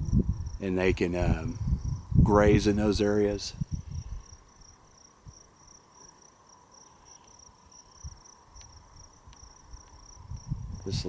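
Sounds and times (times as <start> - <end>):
high-pitched insect trill: 0.0 - 0.6, 1.4 - 11.0.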